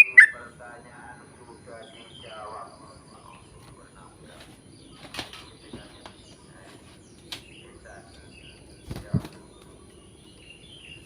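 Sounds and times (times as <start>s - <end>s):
light background noise: 0.0s - 11.0s.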